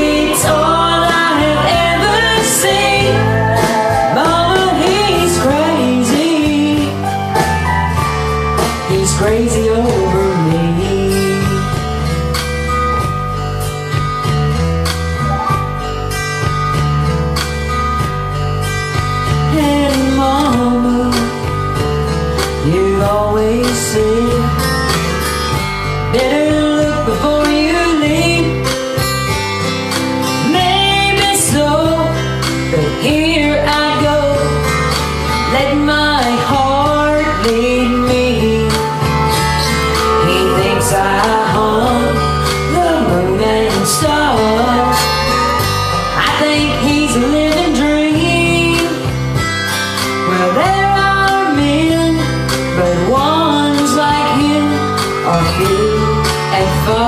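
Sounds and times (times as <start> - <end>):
woman singing karaoke: 0.0 - 13.2, 19.2 - 29.2, 30.2 - 57.0
acoustic guitar backing track: 0.0 - 57.0.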